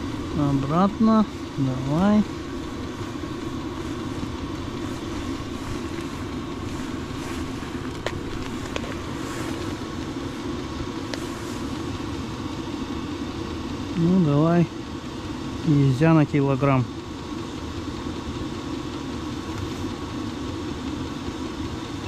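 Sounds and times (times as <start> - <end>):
heater humming and roaring: 0.0 - 22.0.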